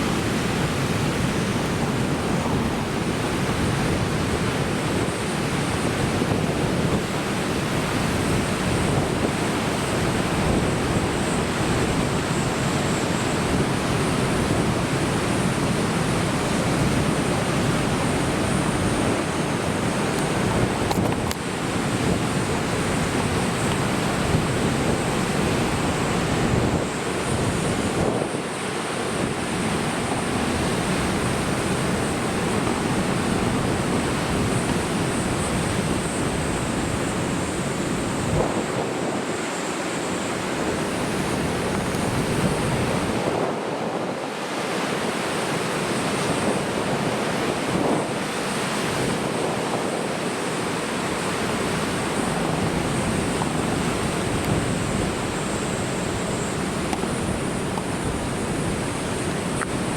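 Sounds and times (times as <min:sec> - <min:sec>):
surf breaking on shore: 0:00.0 - 0:59.9
wind buffeting microphone: 0:00.0 - 0:59.9.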